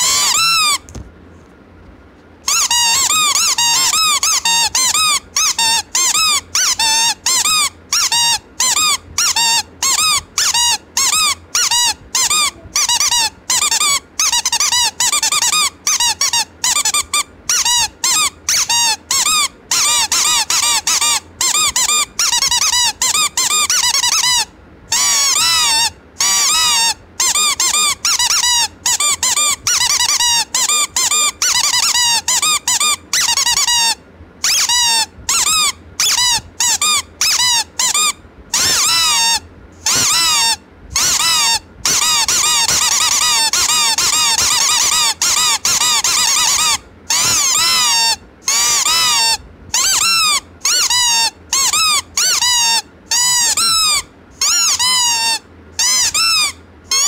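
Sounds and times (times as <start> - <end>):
rubber squeeze toys squeaking: 0.0 - 1.0, 2.4 - 57.0.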